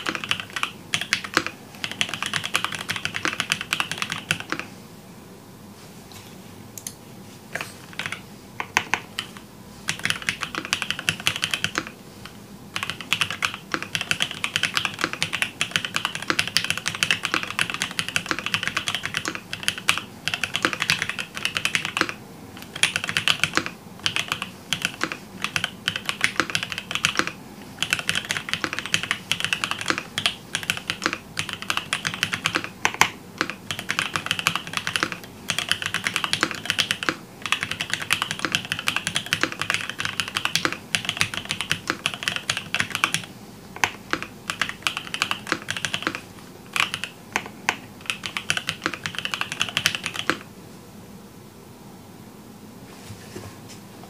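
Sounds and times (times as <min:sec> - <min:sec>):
mechanical keyboard typing: 0:00.0 - 0:04.7, 0:07.9 - 0:50.5.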